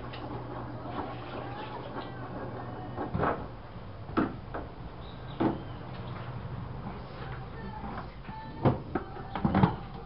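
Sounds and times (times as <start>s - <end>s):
washing machine motor hum: 0.0s - 10.0s.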